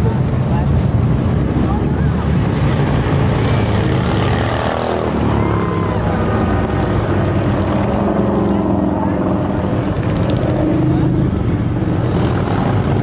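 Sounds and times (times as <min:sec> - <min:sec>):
motorcycles riding past: 0:01.2 - 0:13.0.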